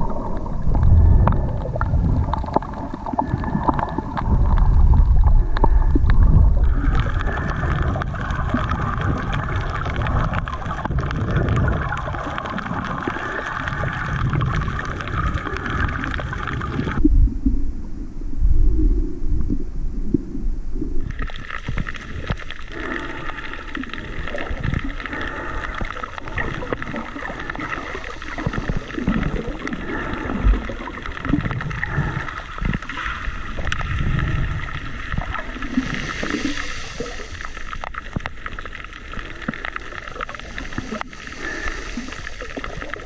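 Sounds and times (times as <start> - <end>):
muffled underwater water movement: 0.0 - 43.0.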